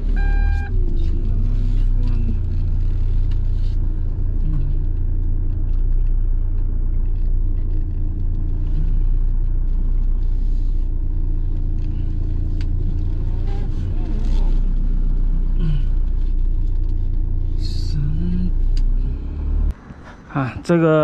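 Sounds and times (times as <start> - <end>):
van engine and road rumble: 0.0 - 21.0.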